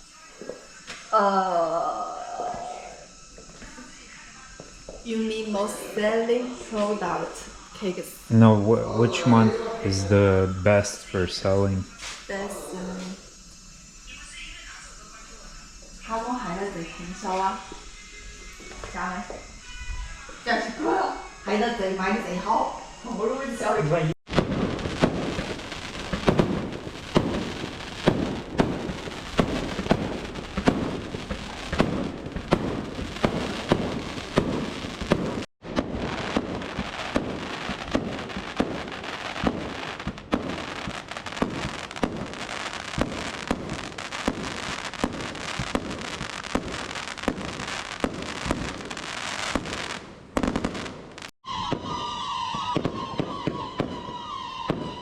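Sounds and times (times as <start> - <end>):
fireworks bangs: 0.0 - 55.0
fireworks crackle: 0.0 - 55.0.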